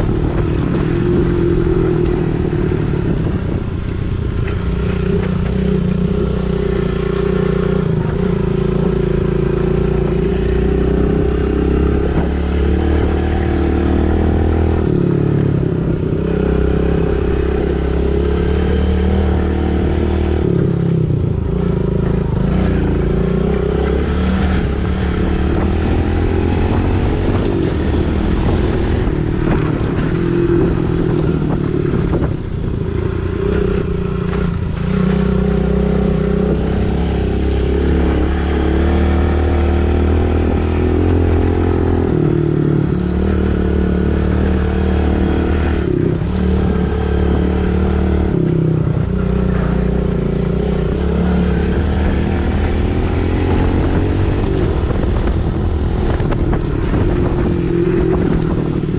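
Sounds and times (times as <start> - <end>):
pit bike engine revving: 0.0 - 58.9.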